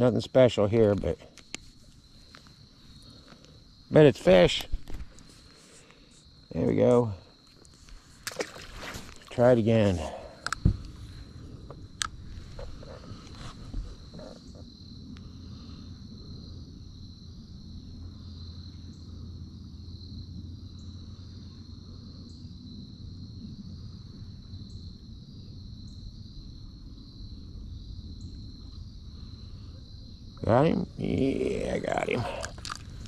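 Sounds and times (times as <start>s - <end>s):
crickets trilling: 0.0s - 33.0s
low steady rumble: 6.4s - 33.0s.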